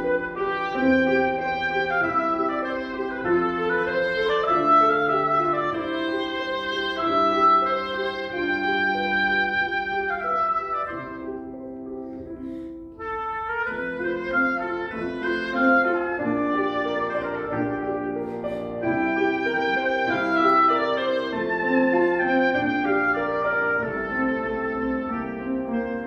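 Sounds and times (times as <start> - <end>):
clarinet melody: 0.0 - 26.0
piano chords: 0.0 - 26.0.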